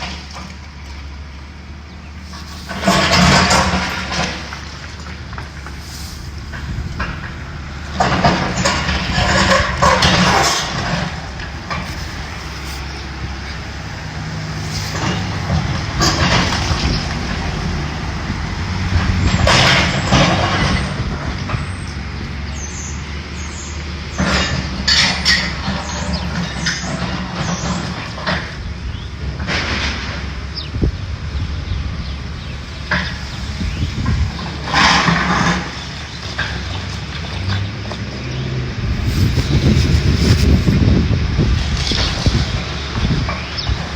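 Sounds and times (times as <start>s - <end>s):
machinery engine running: 0.0s - 28.9s, 31.4s - 41.9s.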